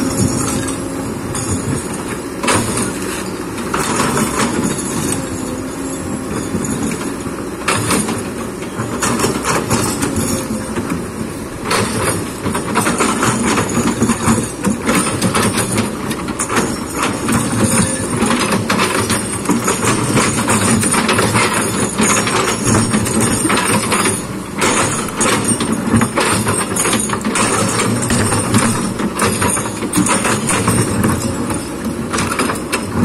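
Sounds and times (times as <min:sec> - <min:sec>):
excavator diesel engine running: 0:00.0 - 0:33.0
sharp knocks and clatter: 0:00.0 - 0:33.0.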